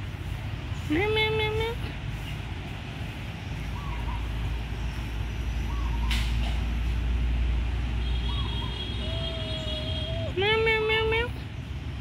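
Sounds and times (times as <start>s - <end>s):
heavy vehicle engine rumble: 0.0s - 12.0s.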